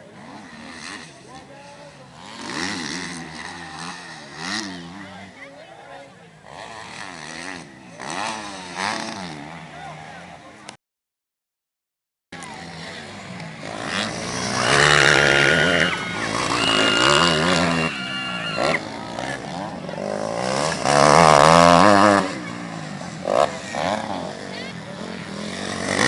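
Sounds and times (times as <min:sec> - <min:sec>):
motocross bike engines revving: 0:00.0 - 0:10.8, 0:12.4 - 0:26.0.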